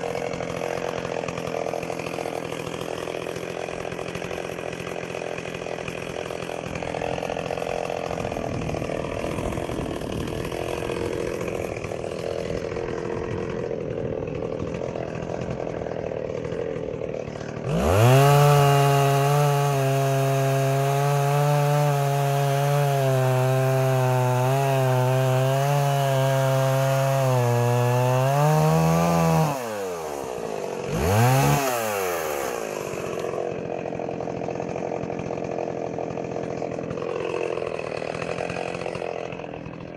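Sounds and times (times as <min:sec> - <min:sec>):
chainsaw idling and cutting wood: 0:00.0 - 0:39.9.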